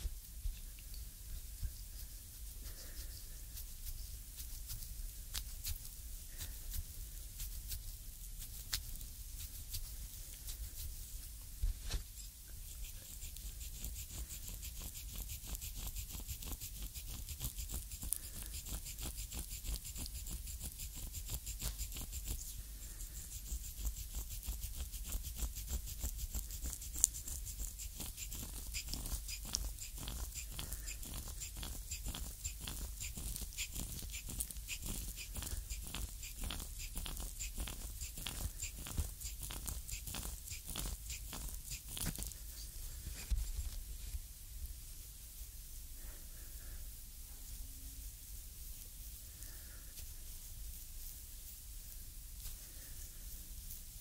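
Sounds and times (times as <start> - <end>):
massage skin clicks and crackles: 0.0 - 44.2.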